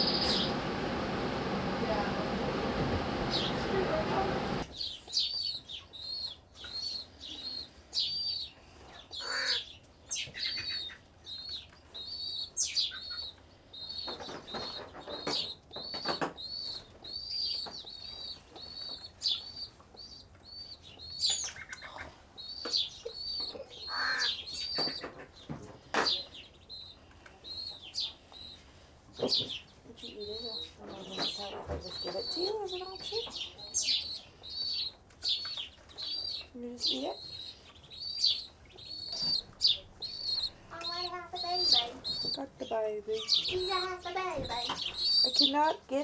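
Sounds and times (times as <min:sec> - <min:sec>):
baby birds cheeping: 0:00.0 - 0:46.0.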